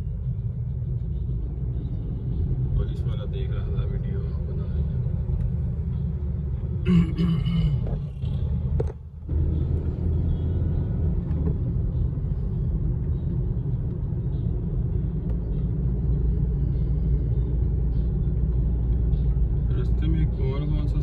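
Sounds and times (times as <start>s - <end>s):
car interior driving rumble: 0.0s - 21.0s.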